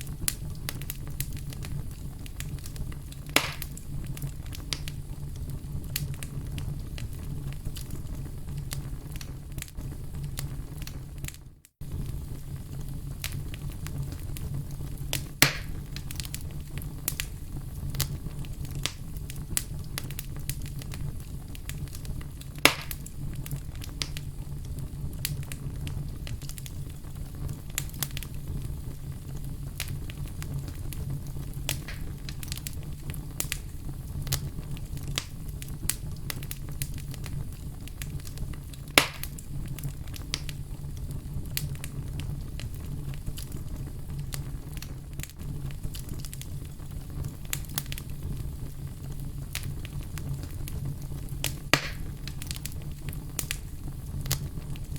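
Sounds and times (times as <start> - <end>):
loud pops from fire: 0.0 - 54.9
wood fire crackling: 0.0 - 54.9.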